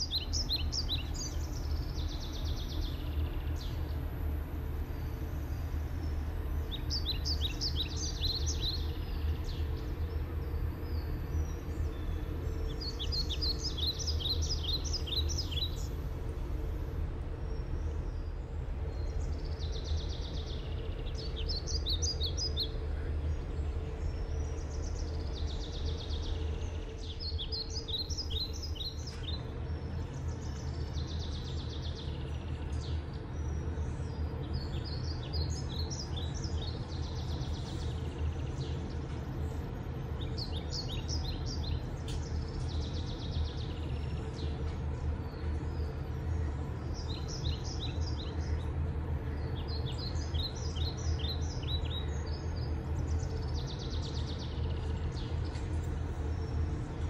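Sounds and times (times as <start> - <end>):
low background rumble: 0.0 - 57.0
songbirds chirping: 0.0 - 57.0.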